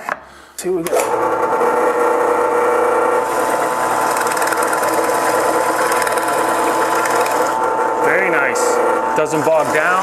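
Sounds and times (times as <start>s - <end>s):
drill press boring into wood: 0.9s - 10.0s.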